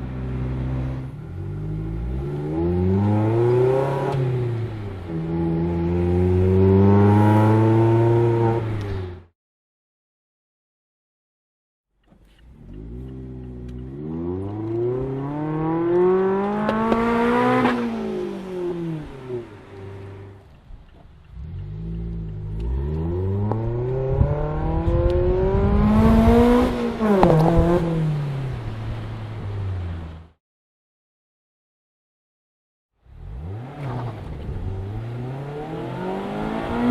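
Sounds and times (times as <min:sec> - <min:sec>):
car engine revving: 0:00.0 - 0:09.3, 0:12.0 - 0:30.3, 0:33.1 - 0:36.9.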